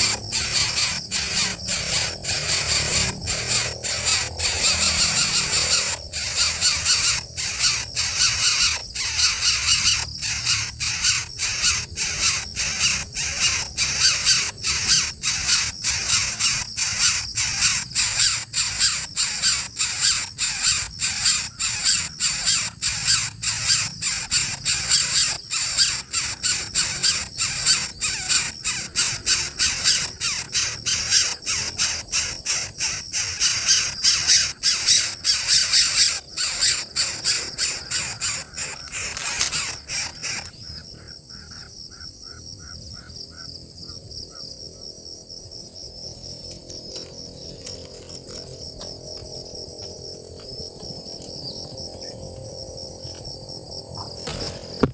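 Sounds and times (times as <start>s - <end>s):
bird chick rasping call: 0.0s - 44.0s.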